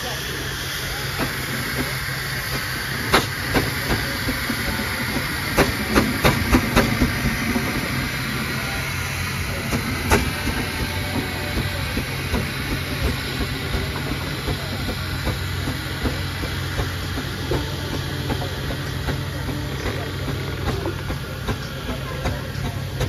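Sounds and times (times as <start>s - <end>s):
low engine hum: 0.0s - 23.0s
steam hissing: 0.0s - 23.0s.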